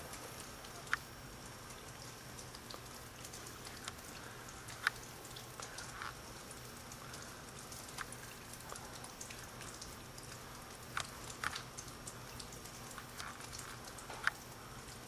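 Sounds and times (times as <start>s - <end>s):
icy snow ticking on mesh screen: 0.0s - 15.0s.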